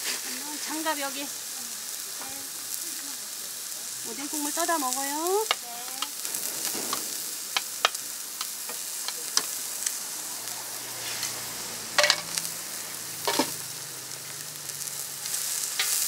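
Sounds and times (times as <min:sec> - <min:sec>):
food sizzling on a griddle: 0:00.0 - 0:16.0.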